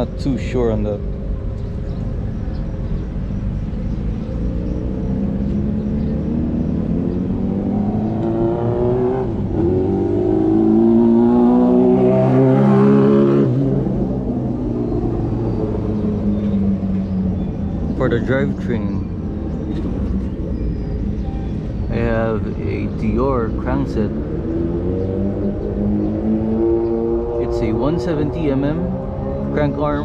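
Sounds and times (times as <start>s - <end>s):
low traffic rumble: 0.0s - 30.0s
vehicle engine accelerating: 2.8s - 30.0s.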